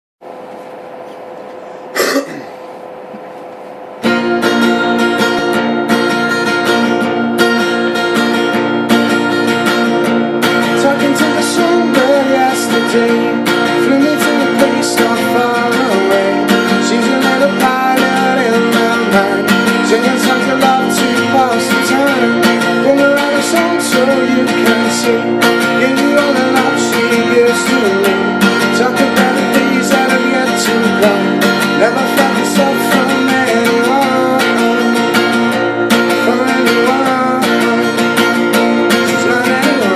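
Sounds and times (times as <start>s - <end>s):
acoustic guitar strumming: 0.8s - 39.9s.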